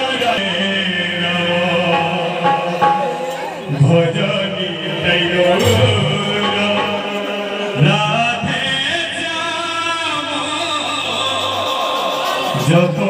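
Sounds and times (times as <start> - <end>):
group chanting and singing: 0.0 - 13.0.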